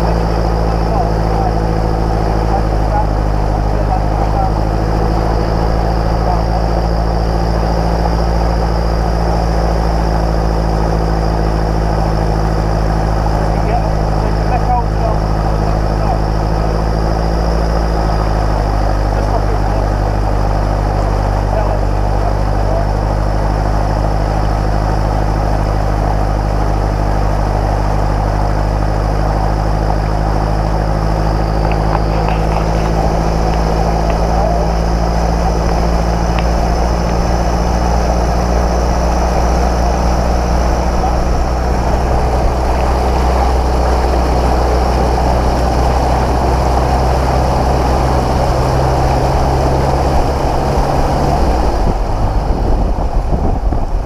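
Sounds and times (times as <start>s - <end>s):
vehicle engine droning: 0.0s - 54.0s
water spraying and surging: 0.0s - 54.0s.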